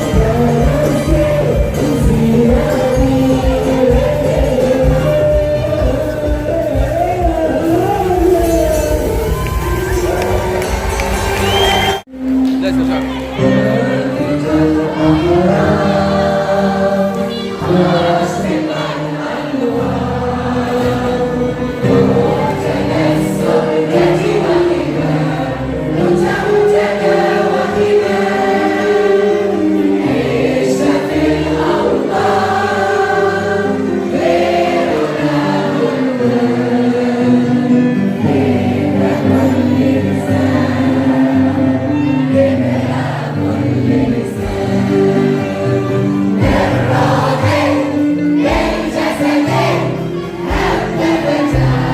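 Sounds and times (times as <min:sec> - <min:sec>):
children's choir singing: 0:00.0 - 0:12.0, 0:13.4 - 0:51.9.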